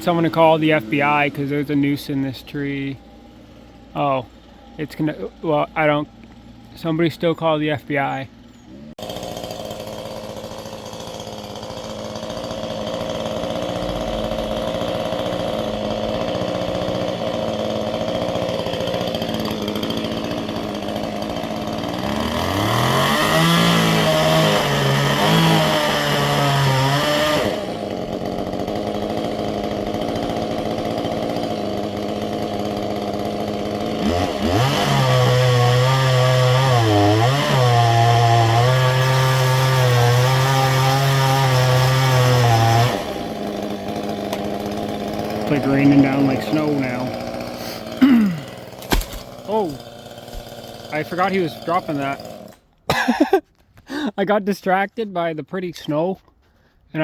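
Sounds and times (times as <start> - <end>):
chainsaw cutting and revving: 0.0 - 54.2.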